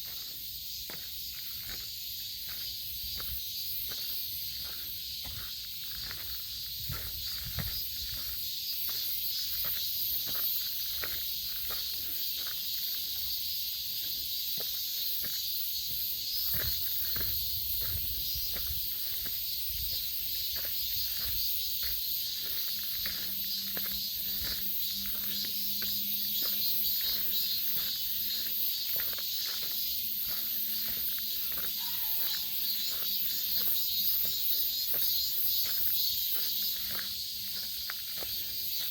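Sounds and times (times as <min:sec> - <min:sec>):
footsteps on forest path: 0:00.0 - 0:38.9
high-pitched insect chorus: 0:00.0 - 0:38.9.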